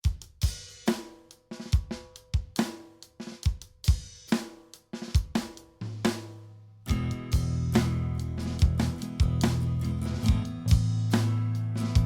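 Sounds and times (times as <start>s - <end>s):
drum kit playing rock beat: 0.0s - 12.0s.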